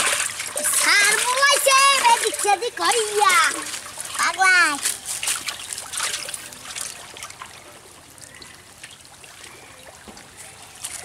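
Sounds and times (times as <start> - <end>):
pond water splashing and trickling: 0.0 - 11.0.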